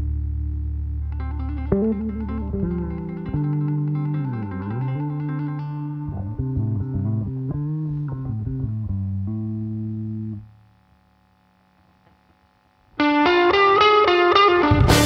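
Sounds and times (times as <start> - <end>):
loud distorted electric guitar: 0.0 - 10.8, 12.9 - 15.0
electric guitar bending low notes: 0.0 - 11.0, 12.9 - 15.0.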